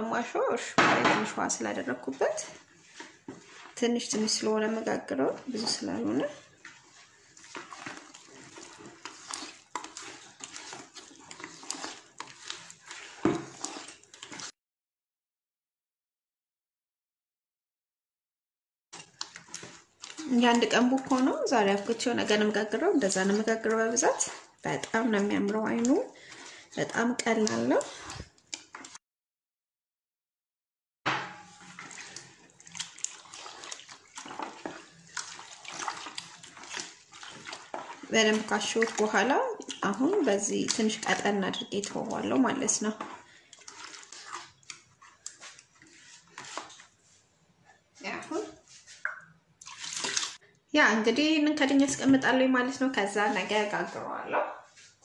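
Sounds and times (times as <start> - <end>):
hand kneading wet batter: 0.0 - 14.6, 19.0 - 29.0, 31.4 - 55.0.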